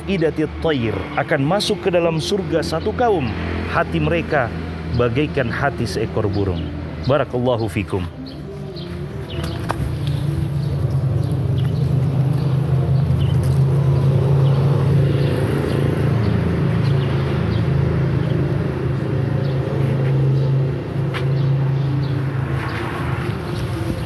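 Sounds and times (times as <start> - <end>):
low engine hum: 1.0 - 24.0.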